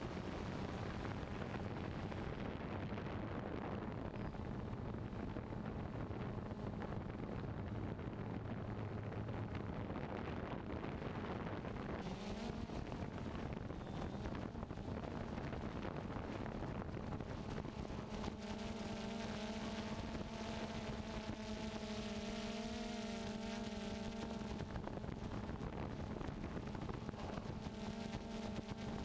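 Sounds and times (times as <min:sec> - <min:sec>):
drone motors humming: 0:00.0 - 0:29.0
wind noise: 0:00.0 - 0:29.0.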